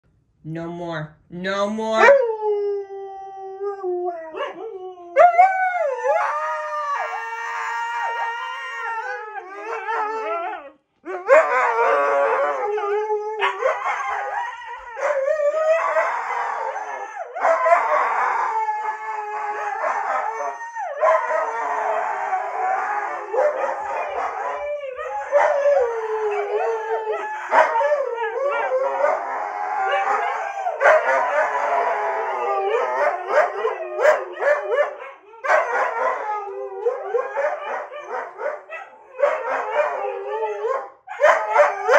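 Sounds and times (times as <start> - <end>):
dog howling: 2.0 - 41.9.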